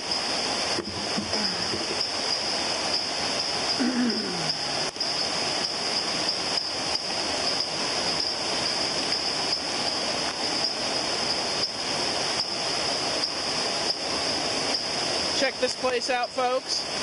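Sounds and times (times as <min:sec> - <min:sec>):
high-pitched hiss: 0:00.0 - 0:17.0
waterfall roaring: 0:00.0 - 0:17.0.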